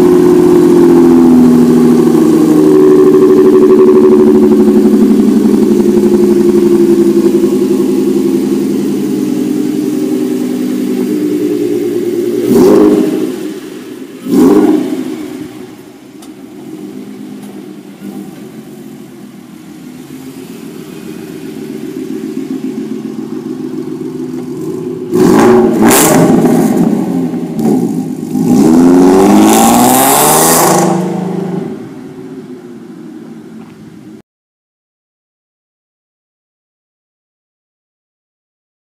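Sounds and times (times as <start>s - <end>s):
car engine revving: 0.0s - 34.1s.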